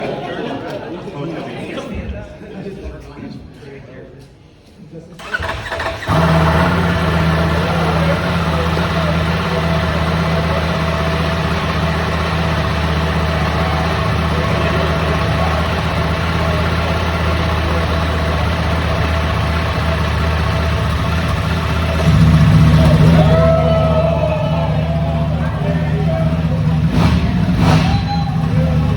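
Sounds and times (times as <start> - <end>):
motorcycle engine idling: 5.3 - 28.9.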